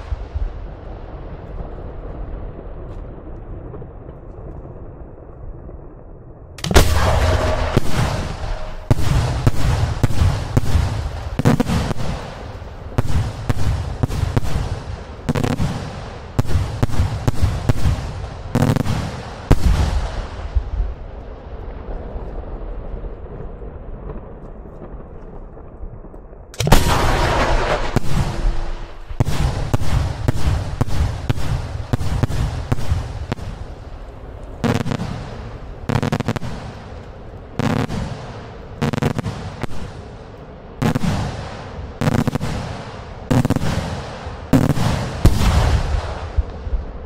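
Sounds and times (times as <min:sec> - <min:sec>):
fireworks bangs: 0:00.0 - 0:05.5, 0:06.6 - 0:47.0.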